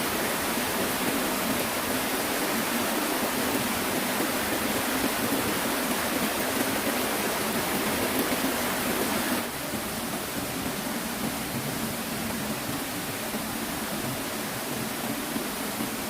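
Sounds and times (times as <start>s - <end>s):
water rushing in stream: 0.0s - 16.0s.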